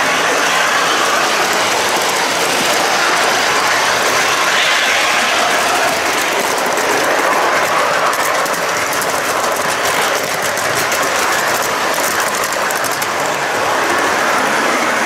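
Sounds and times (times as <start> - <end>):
toy train wheels rattling on rails: 0.0 - 14.9
rapid fine clicking: 0.4 - 14.6.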